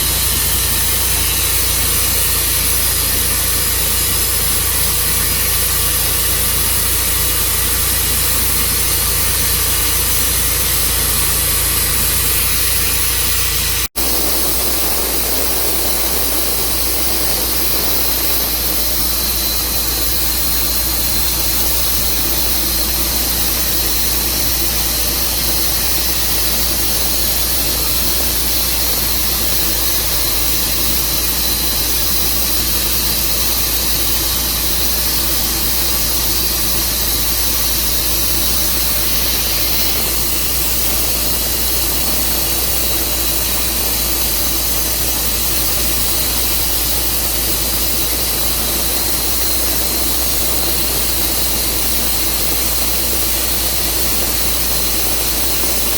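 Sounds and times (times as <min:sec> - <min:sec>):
saw blade hissing: 0:00.0 - 0:24.6, 0:34.8 - 0:55.9
bandsaw mill engine droning: 0:00.0 - 0:55.9.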